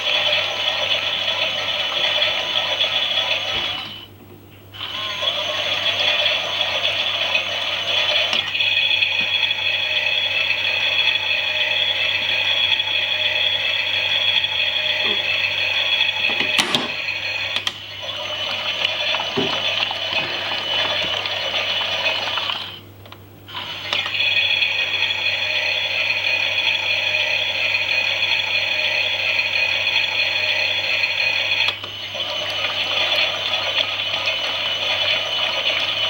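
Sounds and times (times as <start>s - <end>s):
toy washing machine motor and gears: 0.0s - 4.1s, 4.8s - 22.8s, 23.5s - 36.0s.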